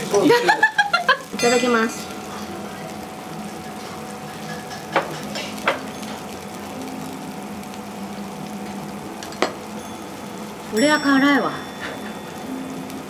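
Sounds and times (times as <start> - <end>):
restaurant background noise: 0.0 - 13.0.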